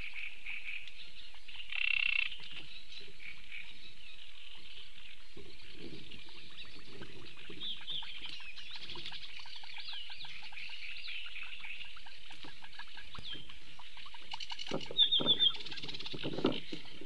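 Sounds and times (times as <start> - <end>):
frogs croaking: 0.0 - 17.0
small birds calling: 0.0 - 17.0.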